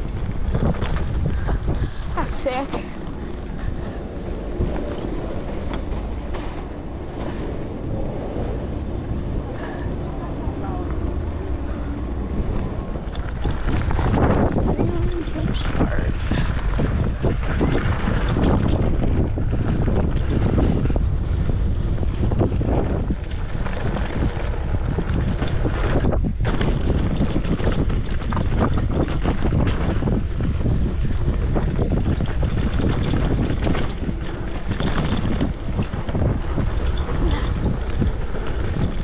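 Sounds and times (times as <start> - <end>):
bike clicks and rattles: 0.0 - 8.0, 11.6 - 39.0
wind buffeting the microphone: 0.0 - 39.0.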